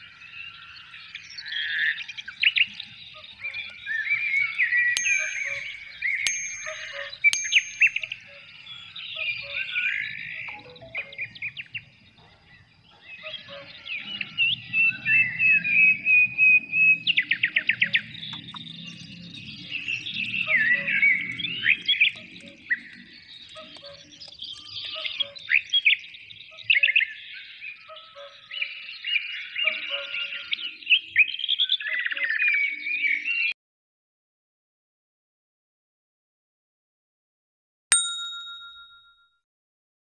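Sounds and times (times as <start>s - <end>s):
songbirds calling: 0.0s - 33.5s.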